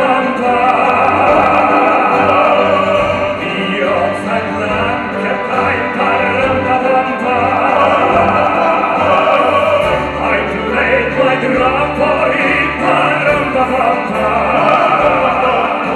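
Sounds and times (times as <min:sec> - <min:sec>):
live band with bass line: 0:00.0 - 0:15.9
male vocal trio singing: 0:00.0 - 0:15.9.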